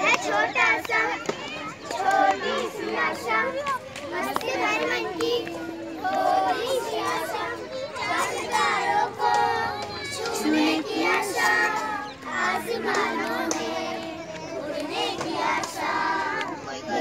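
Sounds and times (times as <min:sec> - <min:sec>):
children singing together: 0:00.0 - 0:17.0
crowd noise: 0:00.0 - 0:17.0.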